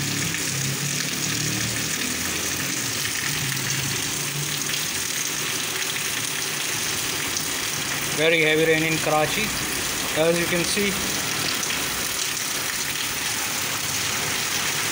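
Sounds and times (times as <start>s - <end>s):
heavy rain on pavement: 0.0s - 14.9s
water pouring and splashing: 0.0s - 14.9s.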